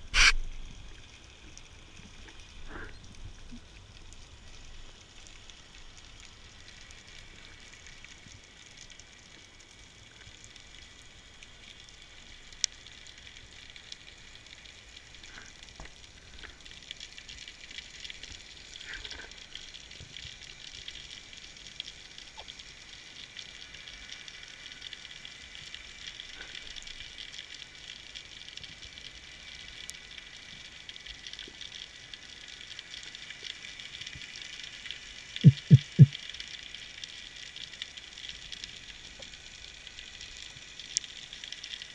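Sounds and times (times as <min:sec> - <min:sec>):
underwater crackling: 0:00.0 - 0:27.8, 0:28.6 - 0:41.9.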